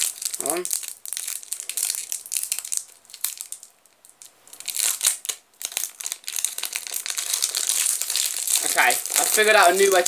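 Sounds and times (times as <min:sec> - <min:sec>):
foil wrapper tearing and crinkling: 0:00.0 - 0:10.0.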